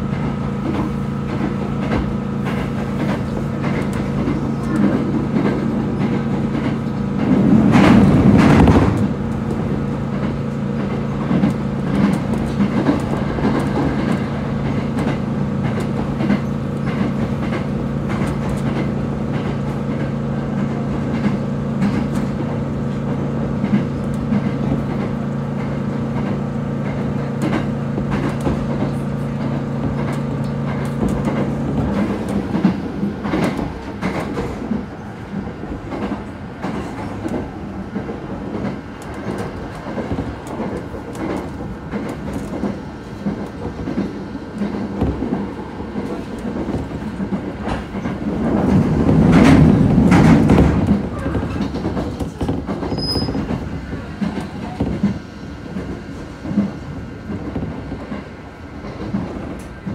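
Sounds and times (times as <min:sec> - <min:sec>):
train rumble: 0:00.0 - 0:59.9
wheels clicking over rail joints: 0:00.0 - 0:59.9.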